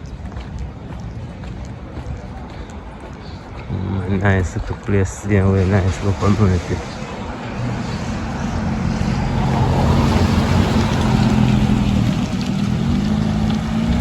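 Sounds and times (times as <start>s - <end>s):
road and wind noise: 0.0s - 14.0s
vehicle engine humming: 0.0s - 14.0s.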